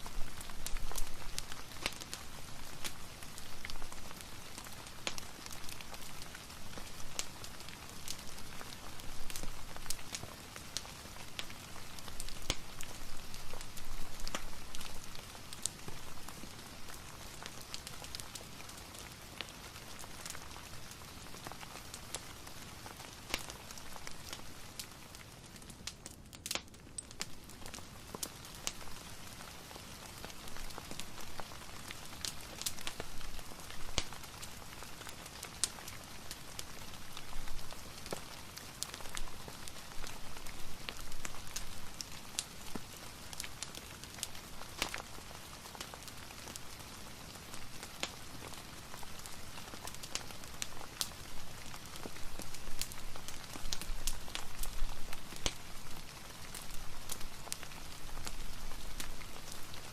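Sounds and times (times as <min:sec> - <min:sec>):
fireplace crackling: 0:00.0 - 0:59.9
soft steady rain: 0:00.0 - 0:59.9.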